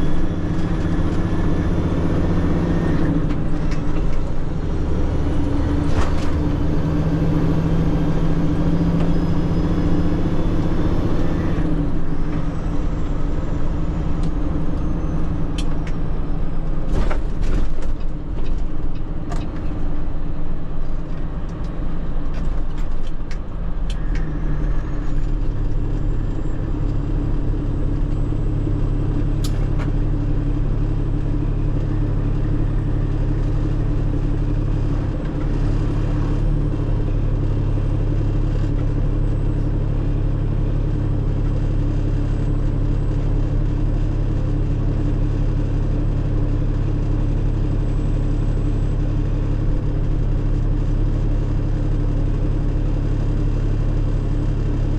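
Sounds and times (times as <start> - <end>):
diesel engine drone: 0.0 - 54.9.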